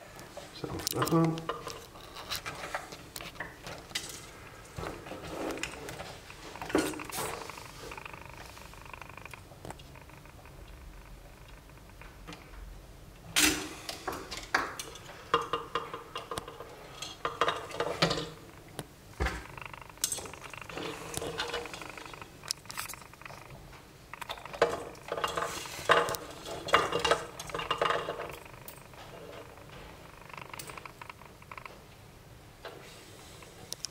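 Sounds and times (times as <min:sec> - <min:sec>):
small clicks taps and rustles: 0:00.2 - 0:12.6, 0:13.9 - 0:32.0, 0:33.4 - 0:33.9.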